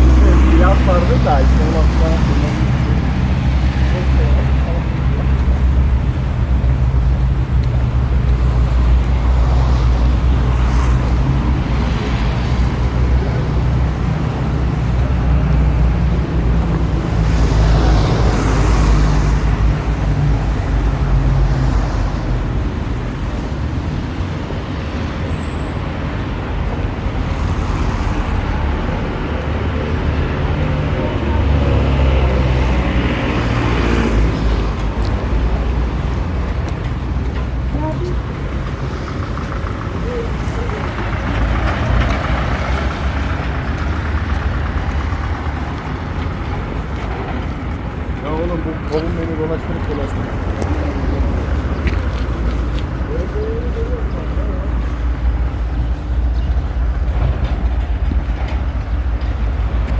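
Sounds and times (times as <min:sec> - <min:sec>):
cars passing: 0:00.0 - 0:59.9
low rumble of traffic: 0:00.0 - 0:59.9.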